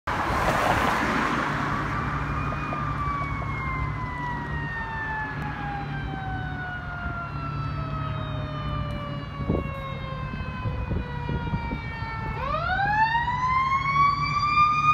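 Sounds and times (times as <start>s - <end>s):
mechanical siren winding down: 2.0s - 14.9s.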